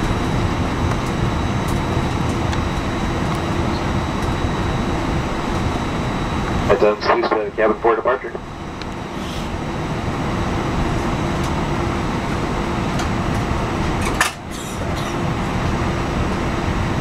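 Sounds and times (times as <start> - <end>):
jet engine from cabin: 0.0 - 17.0.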